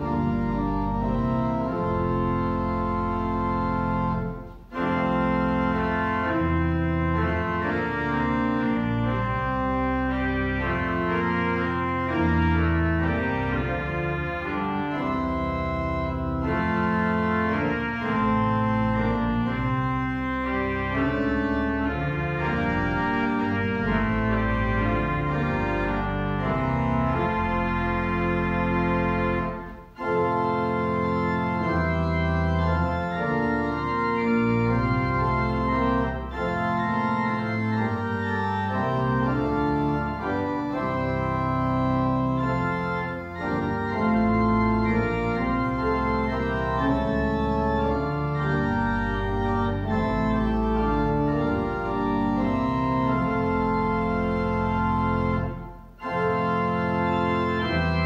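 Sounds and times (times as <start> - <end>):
church organ playing hymn chords: 0.0 - 58.0.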